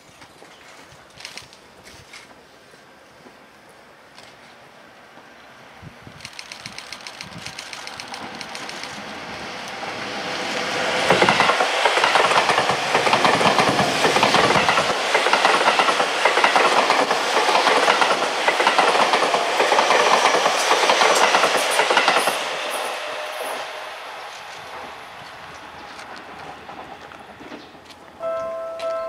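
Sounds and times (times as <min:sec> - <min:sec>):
electric train passing: 0:02.9 - 0:29.0.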